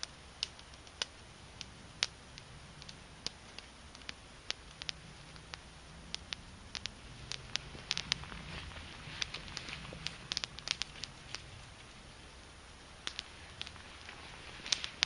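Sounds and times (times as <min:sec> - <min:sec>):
fire crackling and popping: 0:00.0 - 0:15.0
low steady noise: 0:00.0 - 0:15.0.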